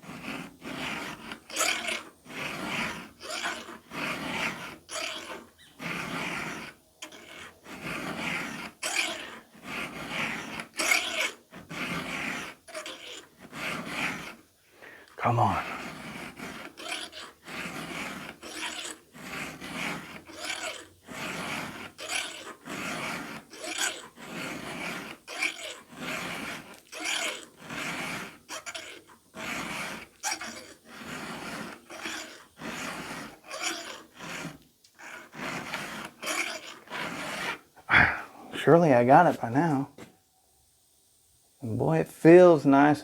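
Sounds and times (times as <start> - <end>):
file rasping on chainsaw chain: 0.0 - 39.8.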